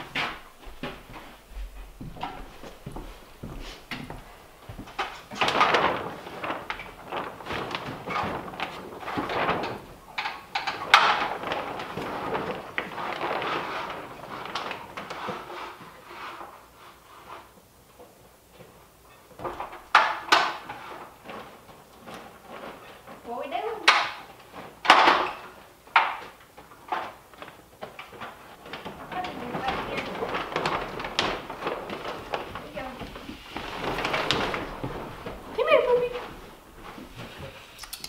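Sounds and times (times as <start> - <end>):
shuffling footsteps: 0.0 - 24.8, 25.4 - 37.9
plastic sheeting rustling: 0.0 - 37.9.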